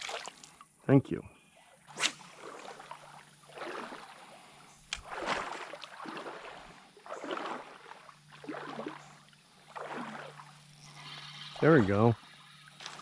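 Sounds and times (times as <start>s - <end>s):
water sloshing around wading legs: 0.0s - 0.6s, 1.9s - 13.0s.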